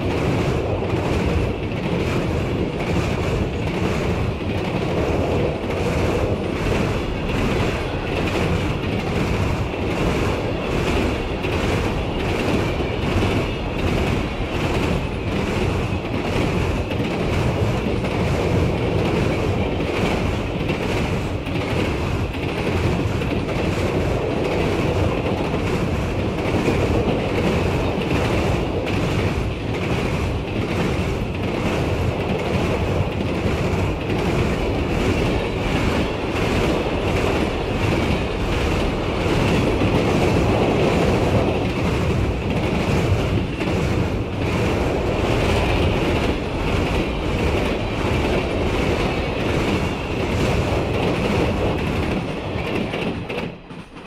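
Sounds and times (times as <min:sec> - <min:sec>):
train rumbling on track: 0:00.0 - 0:54.0
wheels clickety-clack: 0:00.0 - 0:54.0.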